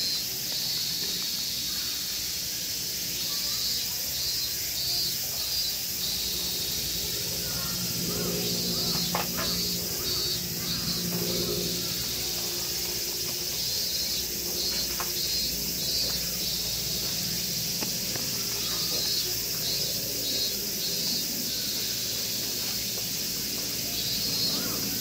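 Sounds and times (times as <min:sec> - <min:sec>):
high outdoor hiss: 0:00.0 - 0:25.0
insects chirping: 0:00.0 - 0:25.0.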